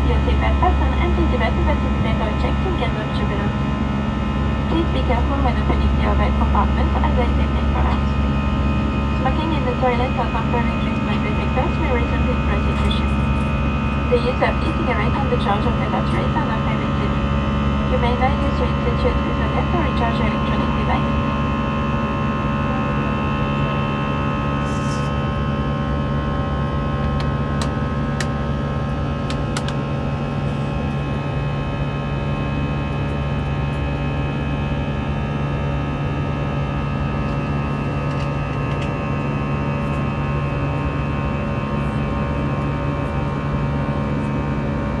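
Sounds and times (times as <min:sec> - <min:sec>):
jet engines droning in cabin: 0:00.0 - 0:45.0.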